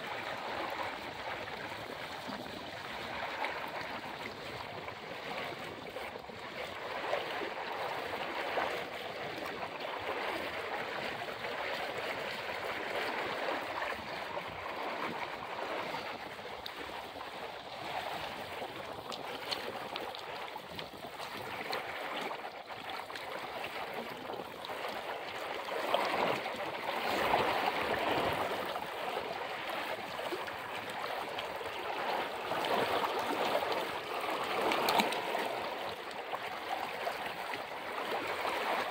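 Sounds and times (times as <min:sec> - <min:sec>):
river water babbling: 0:00.0 - 0:38.9.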